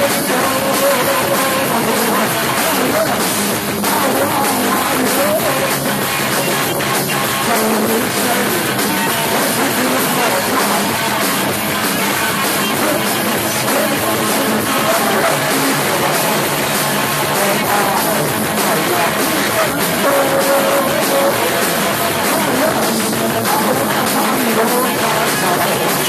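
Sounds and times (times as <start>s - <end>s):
man singing into a microphone: 0.0s - 11.2s, 12.6s - 26.0s
drum kit: 0.0s - 26.0s
electric guitars: 0.0s - 26.0s.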